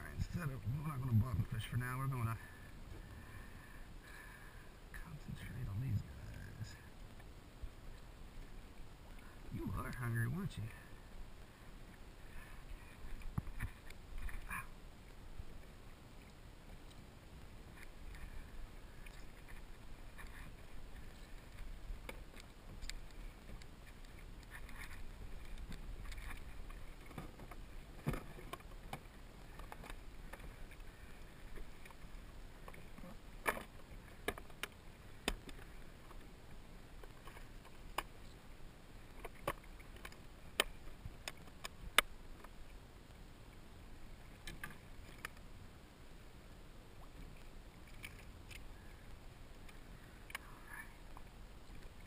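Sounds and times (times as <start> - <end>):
water lapping against kayak hull: 0.0 - 52.0.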